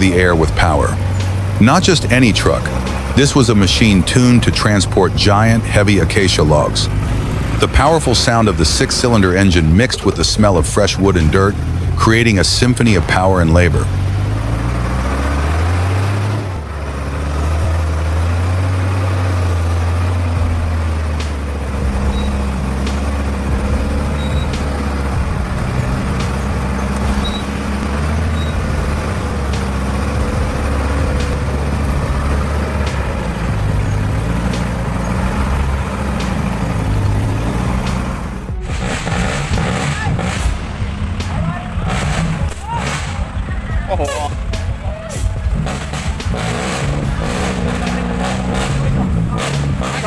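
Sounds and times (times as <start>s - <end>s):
diesel truck engine running: 0.0s - 50.0s.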